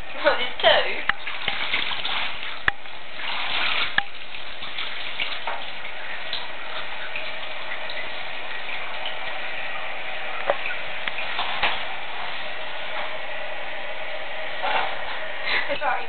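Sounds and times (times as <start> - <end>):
water running into bath: 0.0 - 16.0.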